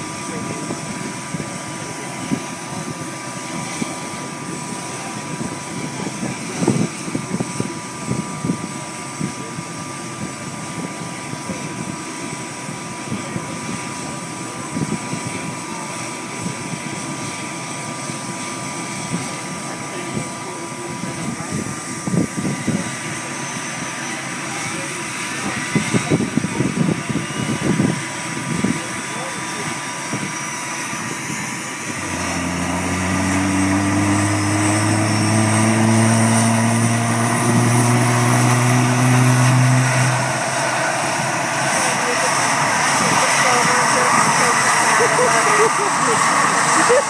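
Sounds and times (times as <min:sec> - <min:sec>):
helicopter turbine whine: 0:00.0 - 0:47.0.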